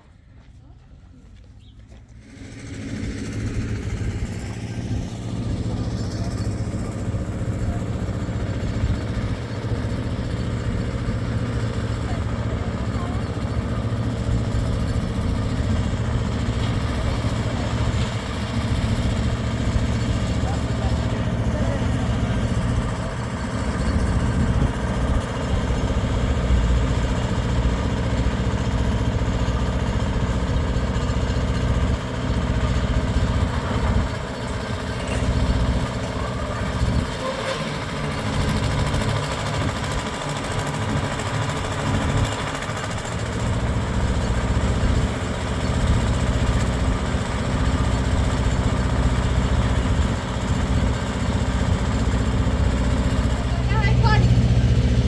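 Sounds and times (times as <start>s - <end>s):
engine humming: 0.0s - 55.0s.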